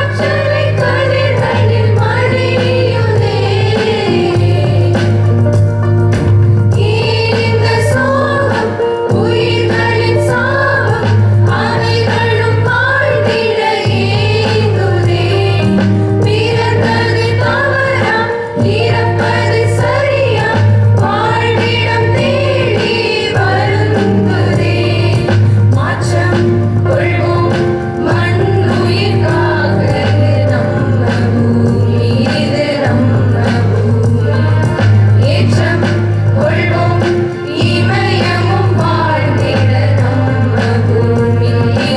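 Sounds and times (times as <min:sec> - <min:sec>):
sustained bass: 0:00.0 - 0:08.5, 0:13.9 - 0:41.9
choir singing: 0:00.0 - 0:41.9
instrumental accompaniment with beat: 0:00.0 - 0:41.9.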